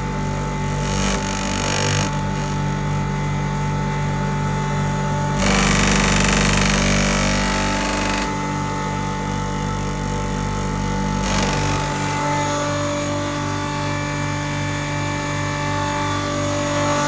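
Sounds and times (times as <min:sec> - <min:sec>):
electric grinding machine humming: 0:00.0 - 0:17.0.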